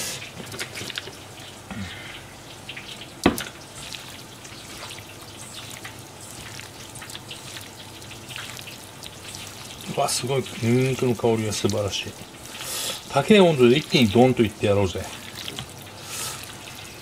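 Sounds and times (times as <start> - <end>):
frying oil crackling: 0.0 - 17.0
hands squishing chicken in bowl: 3.2 - 17.0.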